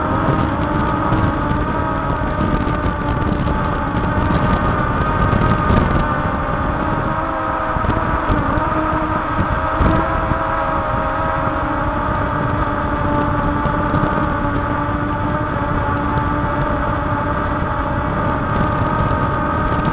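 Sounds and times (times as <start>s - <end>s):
drone motors whining: 0.0s - 19.9s
wind rumble on microphone: 0.0s - 19.9s.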